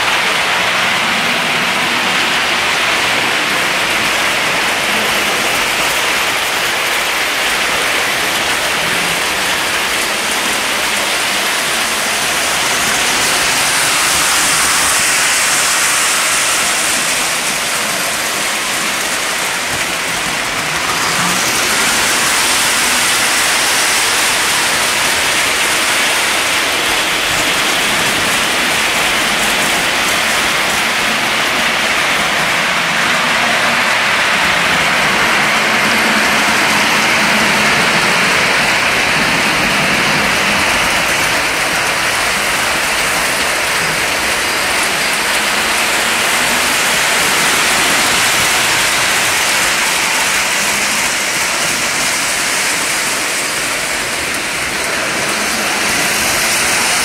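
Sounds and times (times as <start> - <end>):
model train rolling on metal track: 0.0 - 57.0.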